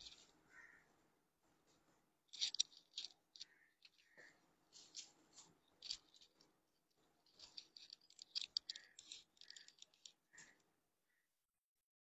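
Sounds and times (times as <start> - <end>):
stiff fabric rustling and crinkling: 0.0 - 10.6.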